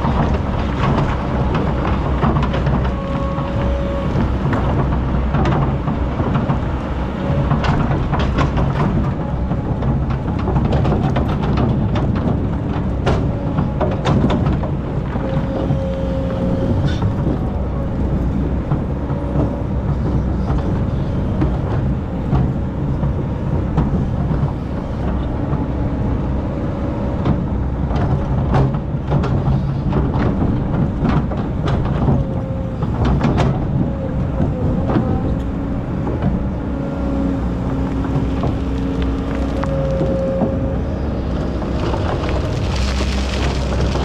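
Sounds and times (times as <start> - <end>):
diesel engine running: 0.0 - 44.0
engine whine: 0.0 - 44.0.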